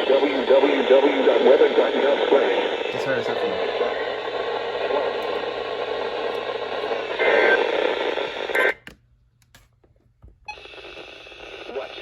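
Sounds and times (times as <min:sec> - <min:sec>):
radio static hiss: 0:00.0 - 0:08.8, 0:10.6 - 0:12.0.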